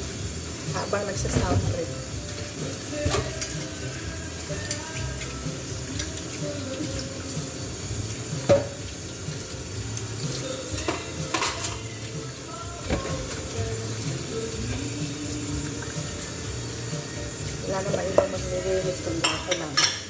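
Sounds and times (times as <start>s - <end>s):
music: 0.0s - 20.0s
tap water running into sink: 0.0s - 20.0s
dishes clinking: 0.9s - 3.9s, 4.5s - 7.5s, 8.3s - 9.1s, 9.8s - 17.2s, 17.8s - 20.0s.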